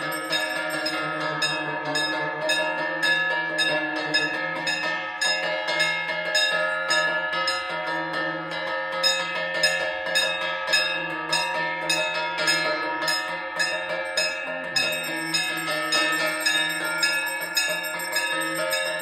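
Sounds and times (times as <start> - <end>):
temple bells ringing: 0.0 - 19.0.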